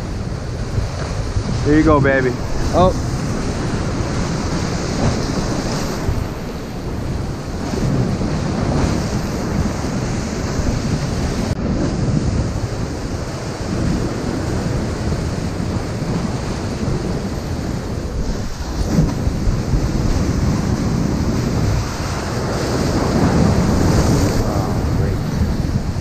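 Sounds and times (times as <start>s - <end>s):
surf breaking over rocks: 0.0s - 26.0s
wind buffeting microphone: 0.0s - 26.0s.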